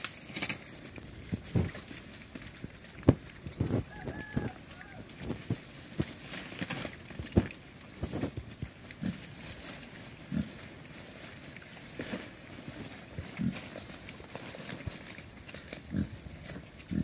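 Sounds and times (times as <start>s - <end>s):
pigs crunching leaves: 0.0s - 17.0s
pigs grunting: 0.6s - 17.0s.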